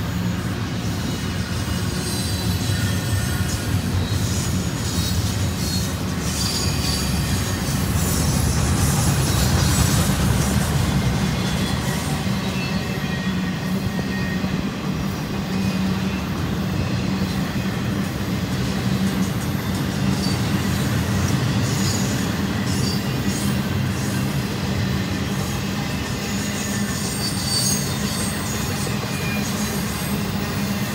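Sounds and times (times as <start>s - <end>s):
train wheels rumbling and rattling: 0.0s - 30.9s
faint wheel squeal: 0.1s - 17.9s, 19.6s - 30.9s.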